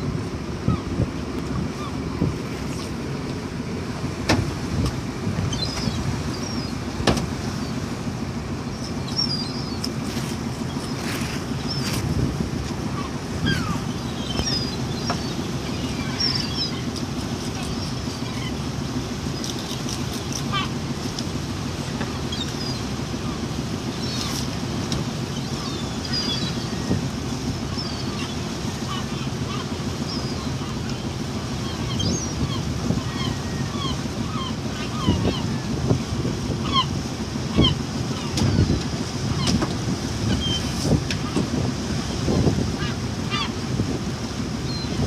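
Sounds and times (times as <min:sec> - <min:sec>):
boat engine running: 0:00.0 - 0:45.0
water noise: 0:00.0 - 0:45.0
wind: 0:00.0 - 0:45.0.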